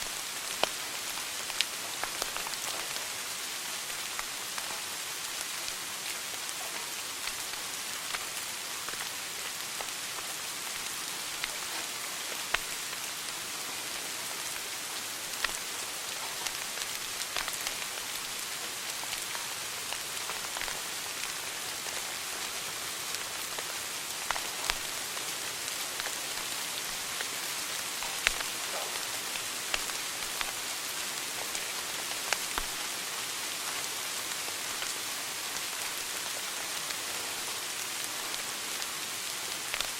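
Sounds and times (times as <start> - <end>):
wood fire crackling and popping: 0.0 - 13.4, 14.4 - 38.5, 39.6 - 39.9.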